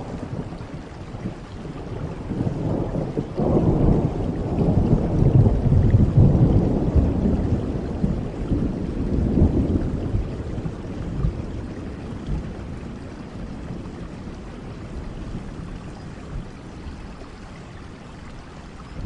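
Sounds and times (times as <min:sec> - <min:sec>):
thunder rumbling: 0:00.0 - 0:17.4
steady rain: 0:00.0 - 0:19.0.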